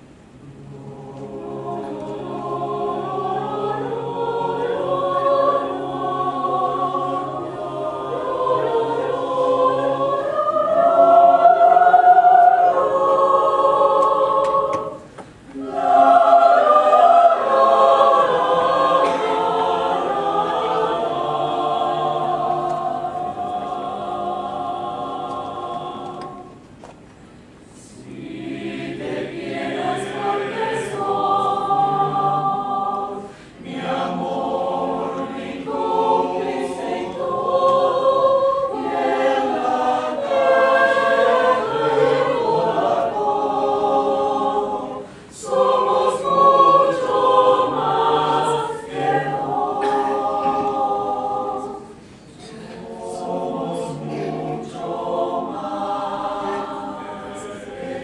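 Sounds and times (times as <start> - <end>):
mixed choir singing a cappella: 0.0 - 26.9, 27.6 - 58.0.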